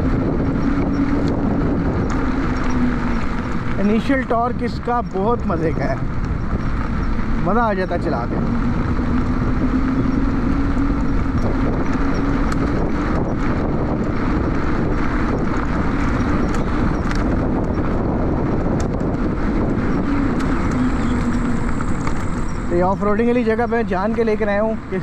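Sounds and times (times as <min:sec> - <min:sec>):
electric motor hum: 0:00.0 - 0:24.4
tyres rolling over gravel: 0:00.0 - 0:25.0
wind on microphone: 0:00.0 - 0:25.0.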